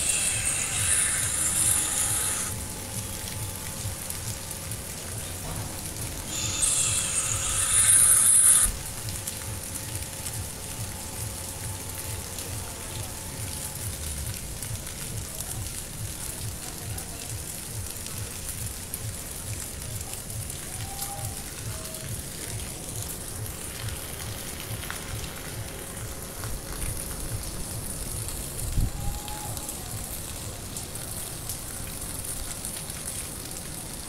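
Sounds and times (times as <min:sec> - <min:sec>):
hissing rush of water: 0:00.0 - 0:34.0
steady rain falling: 0:00.0 - 0:34.0.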